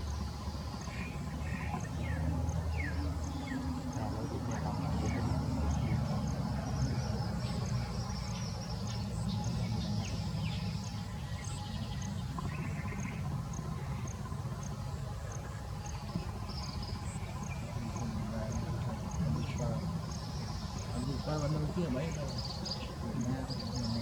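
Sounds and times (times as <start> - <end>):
cricket chirping: 0.0 - 24.0
steady low rumble: 0.0 - 24.0.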